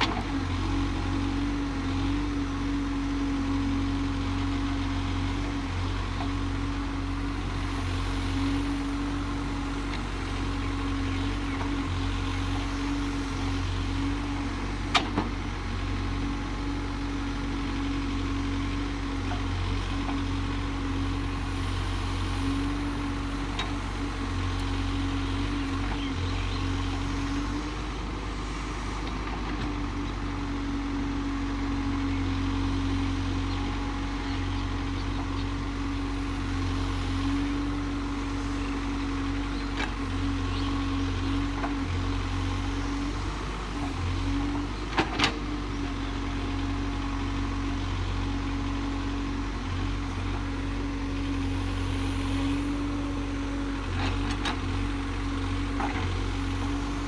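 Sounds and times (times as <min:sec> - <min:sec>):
backhoe diesel engine running: 0:00.0 - 0:57.0.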